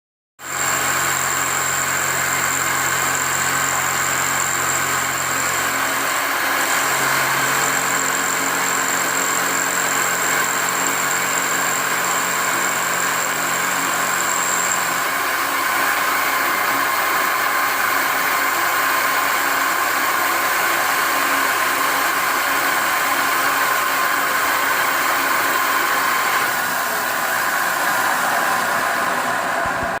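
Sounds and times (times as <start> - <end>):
milling machine running: 0.5 - 30.0.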